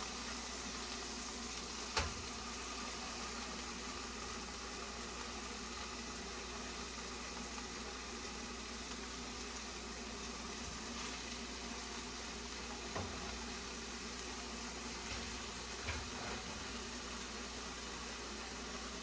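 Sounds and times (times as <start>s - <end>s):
fish sizzling in a skillet: 0.0s - 19.0s.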